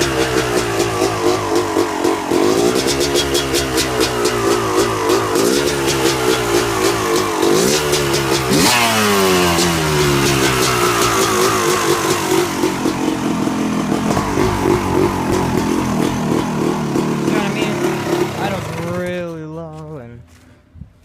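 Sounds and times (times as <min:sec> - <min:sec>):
dirt bike engine revving and idling: 0:00.0 - 0:20.5.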